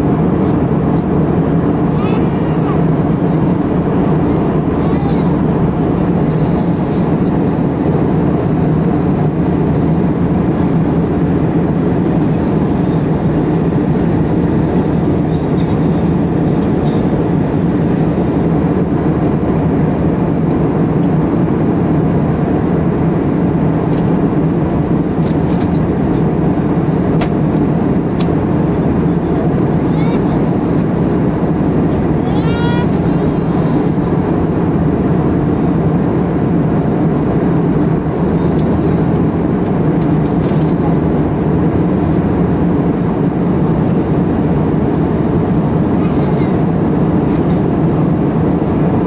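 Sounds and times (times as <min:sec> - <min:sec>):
jet engine and airflow noise: 0:00.0 - 0:49.0.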